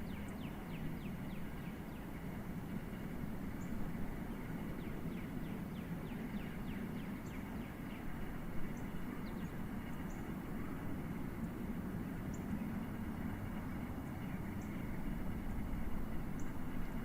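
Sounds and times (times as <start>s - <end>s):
distant jet aircraft rumble: 0.0s - 17.0s.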